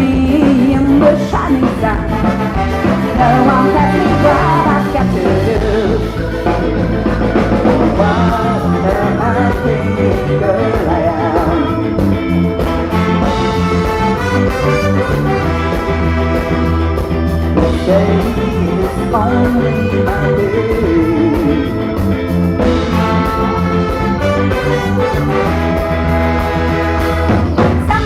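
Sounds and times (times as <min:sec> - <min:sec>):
ska band playing: 0:00.0 - 0:28.0
strong bass line: 0:00.0 - 0:28.0.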